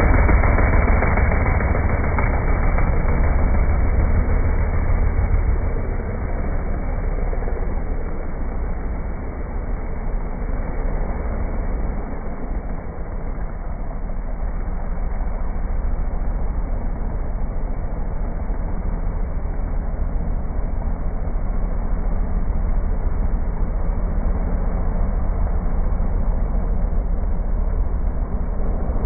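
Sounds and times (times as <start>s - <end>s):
truck engine at full throttle: 0.0s - 29.0s.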